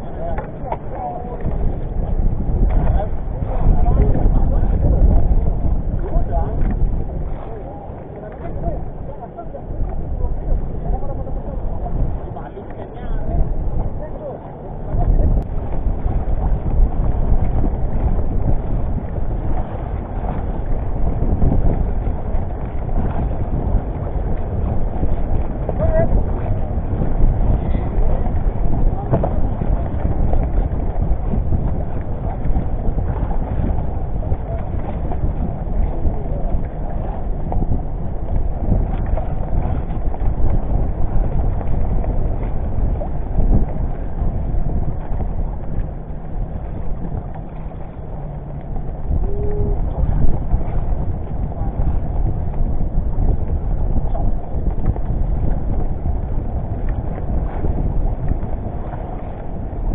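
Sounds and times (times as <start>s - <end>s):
water slapping against boat hull: 0.0s - 59.9s
wind rumbling on microphone: 0.0s - 59.9s.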